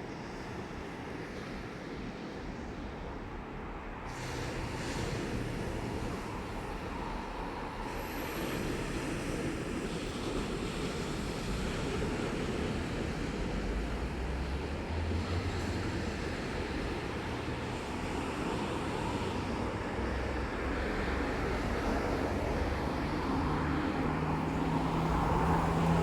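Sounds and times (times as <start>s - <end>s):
wind: 0.0s - 26.0s
sea surf washing on shore: 4.0s - 26.0s.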